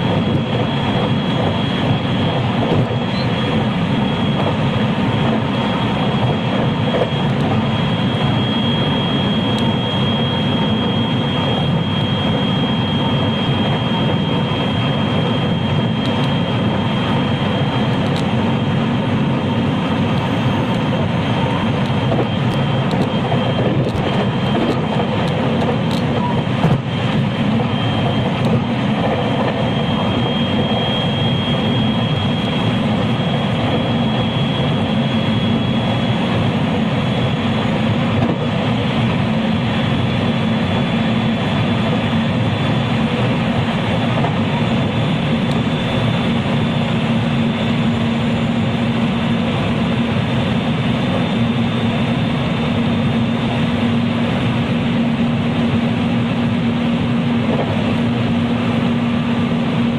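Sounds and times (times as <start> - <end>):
thin high whine: 0.0 - 59.9.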